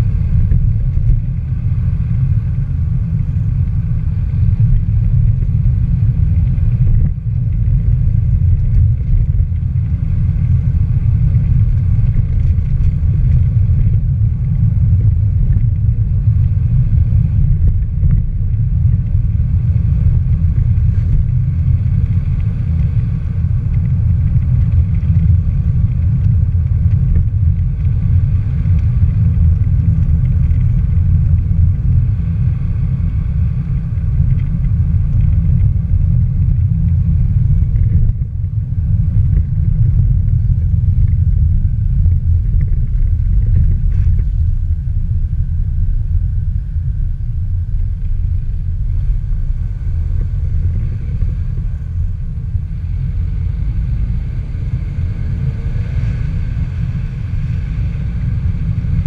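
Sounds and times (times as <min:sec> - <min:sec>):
vehicle rumble on road: 0:00.0 - 0:59.0
wind noise: 0:00.0 - 0:59.0.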